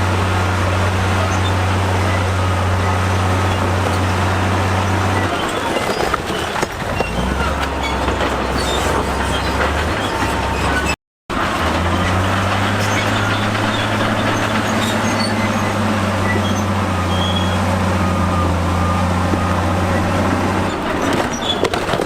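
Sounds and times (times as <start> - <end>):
heavy diesel machinery running: 0.0 - 22.0
steel tracks clanking and squealing: 0.0 - 22.0.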